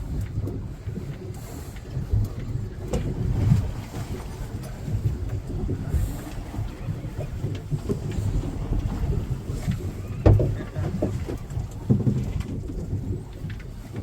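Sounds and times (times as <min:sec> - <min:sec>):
boat engine low rumble: 0:00.0 - 0:14.0
wind buffeting microphone: 0:00.0 - 0:14.0.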